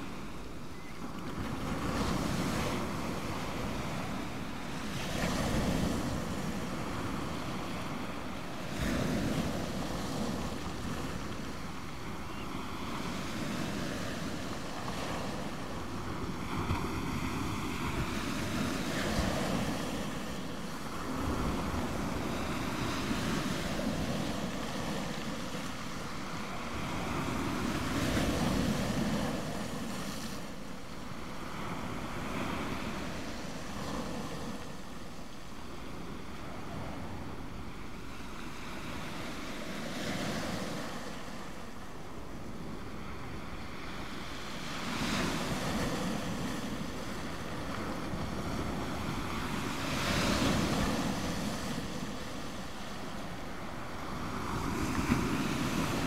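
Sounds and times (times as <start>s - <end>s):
steady rush of surf: 0.0s - 56.0s.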